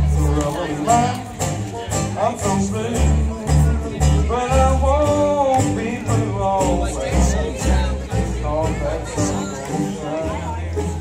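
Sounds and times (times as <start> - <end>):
string band playing blues: 0.0 - 11.0.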